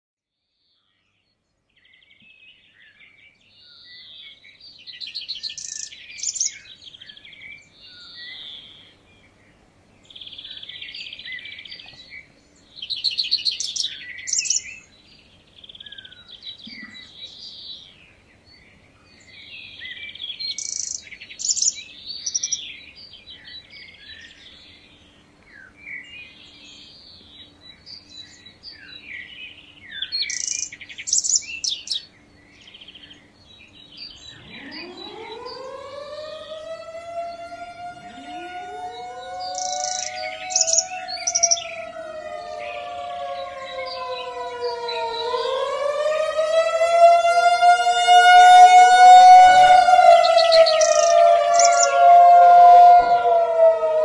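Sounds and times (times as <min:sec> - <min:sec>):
songbirds singing: 0:00.6 - 0:54.0.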